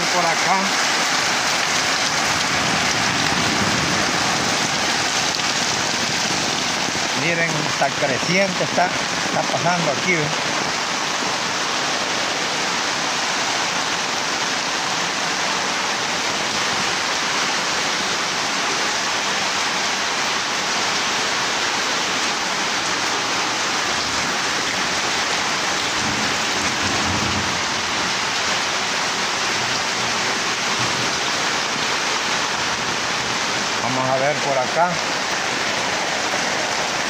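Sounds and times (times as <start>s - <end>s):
heavy rain: 0.0s - 37.0s
runoff water streaming: 0.0s - 37.0s.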